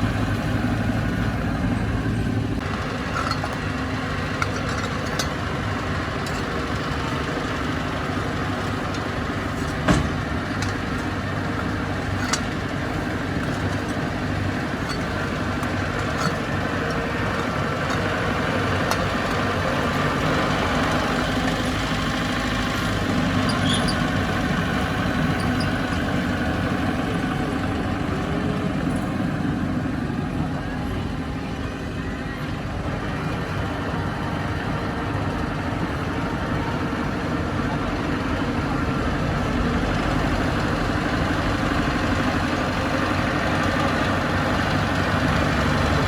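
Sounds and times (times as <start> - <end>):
heavy machinery diesel engine running: 0.0 - 46.0.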